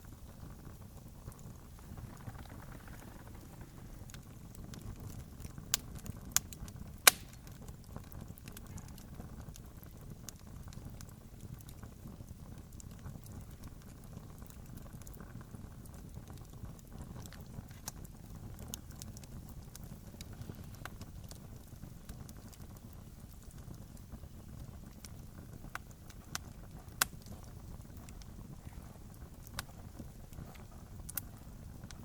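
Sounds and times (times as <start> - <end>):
campfire crackling: 0.0 - 32.0
sharp fire pops: 0.0 - 32.0.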